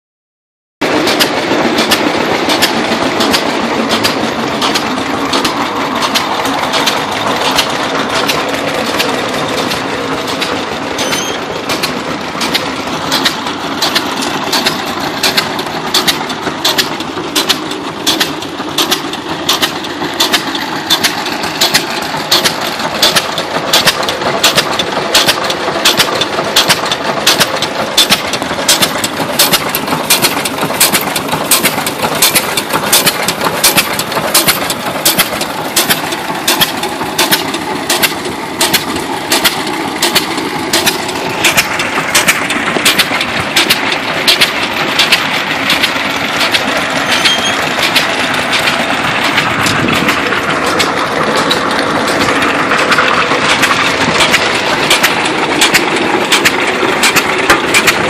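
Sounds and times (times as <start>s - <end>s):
belt-driven machinery clatter: 0.8s - 58.0s
stationary engine exhaust pops: 0.8s - 58.0s.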